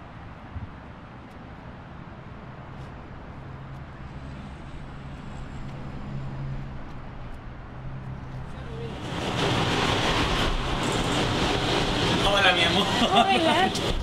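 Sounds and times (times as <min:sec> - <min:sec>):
passing traffic noise: 0:00.0 - 0:14.0.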